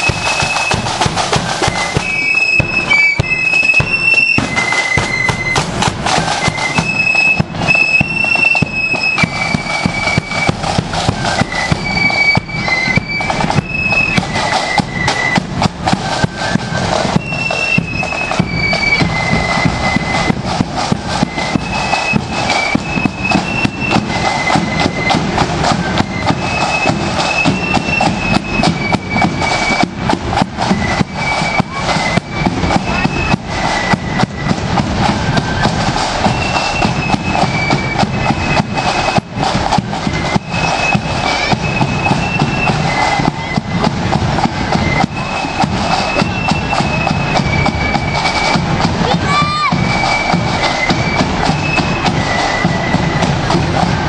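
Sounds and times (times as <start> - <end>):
bass drum beats: 0.0 - 54.0
flutes playing shrill melody: 0.0 - 54.0
rapid snare drumming: 0.0 - 54.0.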